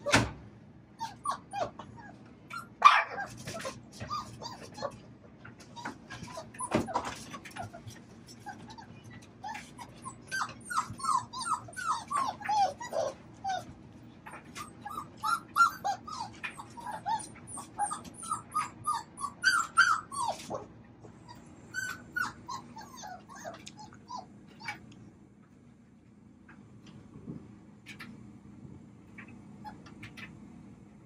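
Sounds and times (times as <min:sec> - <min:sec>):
puppies whining and yipping: 0:00.0 - 0:24.9.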